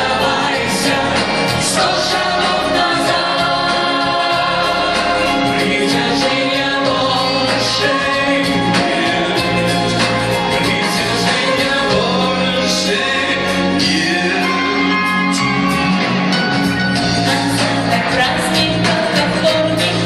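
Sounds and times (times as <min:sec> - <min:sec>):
choir-like backing voices: 0:00.0 - 0:20.0
live pop song with band: 0:00.0 - 0:20.0.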